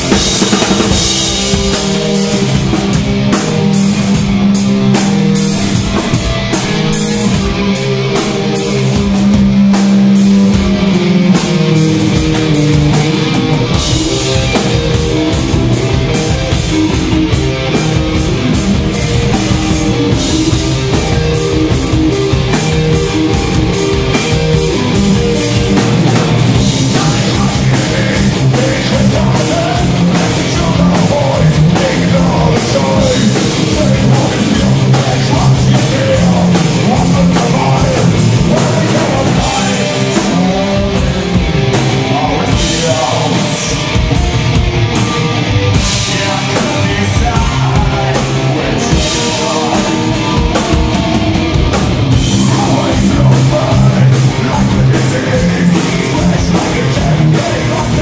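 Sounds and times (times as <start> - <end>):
distorted electric guitars riffing: 0.0 - 58.0
drum kit rapid beats: 0.0 - 58.0.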